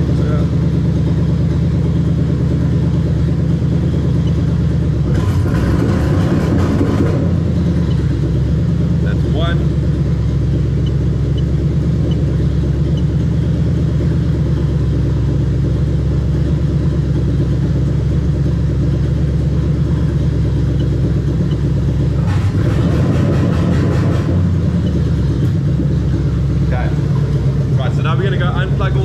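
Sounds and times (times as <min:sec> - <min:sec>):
loud car engine running: 0:00.0 - 0:29.0.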